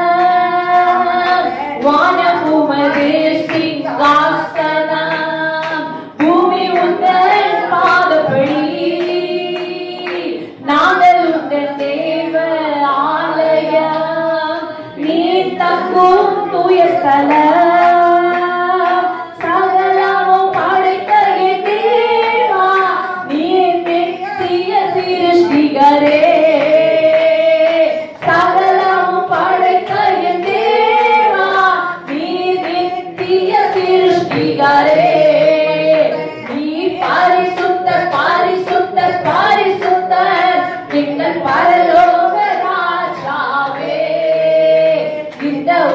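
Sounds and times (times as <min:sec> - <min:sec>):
woman singing into microphone: 0:00.0 - 0:45.9.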